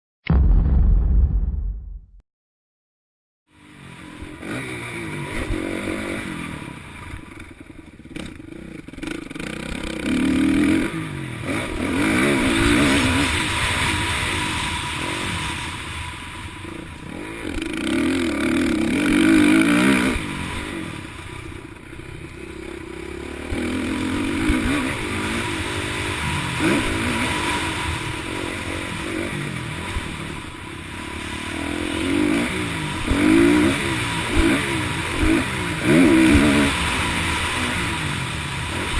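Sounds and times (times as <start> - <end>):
motocross bike engines revving: 3.6 - 38.9.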